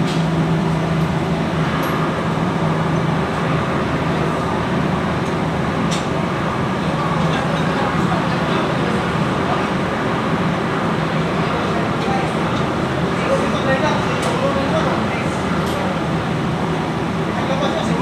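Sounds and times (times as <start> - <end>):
machinery humming: 0.0 - 18.0.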